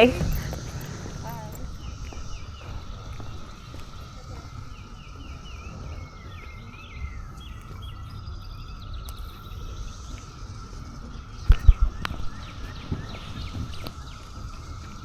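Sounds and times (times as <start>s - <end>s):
birds chirping: 0.0s - 15.0s
cicadas chorusing: 0.0s - 15.0s
low rumble: 0.0s - 15.0s.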